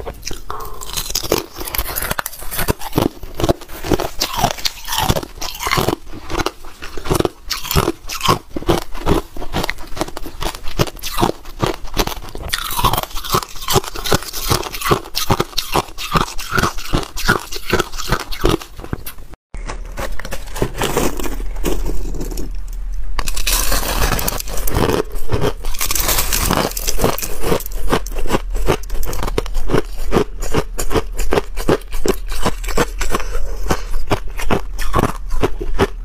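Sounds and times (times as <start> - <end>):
ice crunching while chewed: 0.0 - 22.6, 23.2 - 36.0.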